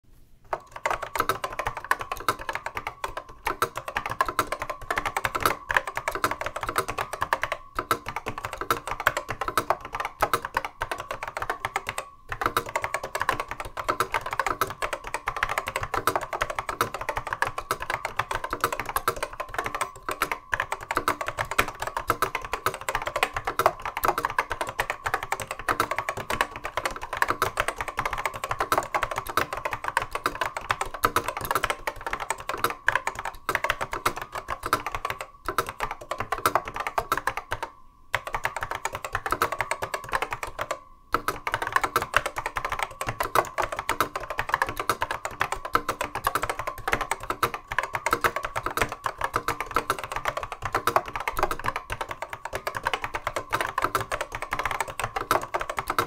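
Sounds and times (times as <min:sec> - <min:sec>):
fast keyboard typing: 0:00.5 - 0:56.0.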